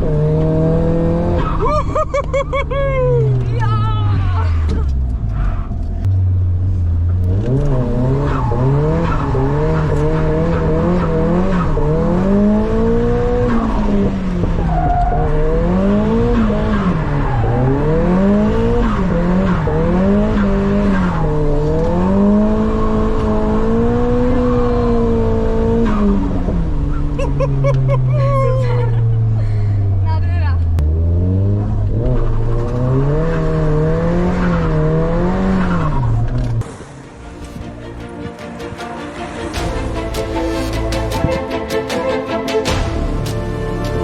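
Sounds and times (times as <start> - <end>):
car engine revving: 0.0 - 38.1
tyres skidding: 0.0 - 44.0.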